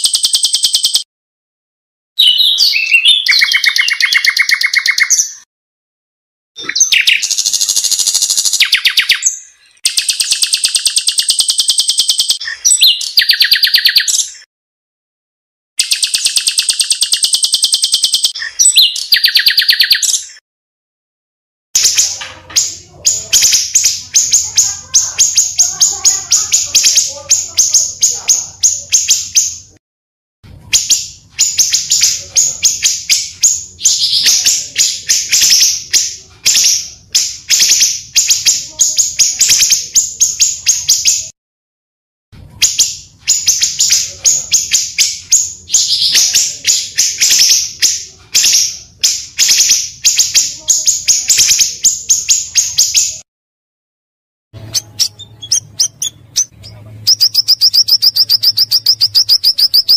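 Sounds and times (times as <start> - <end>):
high-pitched bird chirps: 0.0 - 1.1, 2.2 - 5.5, 6.6 - 14.5, 15.8 - 20.4, 21.8 - 29.8, 30.6 - 41.3, 42.5 - 53.2, 54.6 - 59.9.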